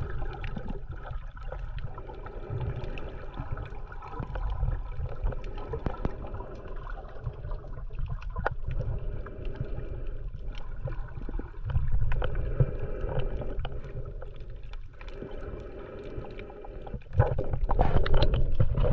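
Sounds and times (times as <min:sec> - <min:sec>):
sharp underwater clicks and crackles: 0:00.0 - 0:18.9
underwater water rumble: 0:00.0 - 0:18.9.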